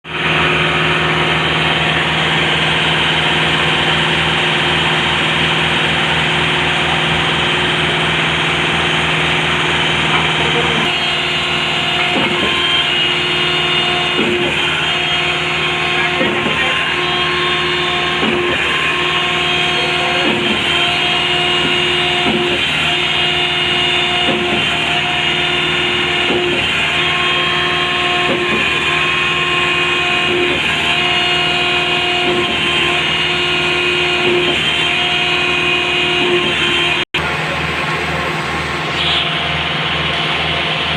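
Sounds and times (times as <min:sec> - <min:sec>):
concrete pump engine drone: 0:00.0 - 0:40.9.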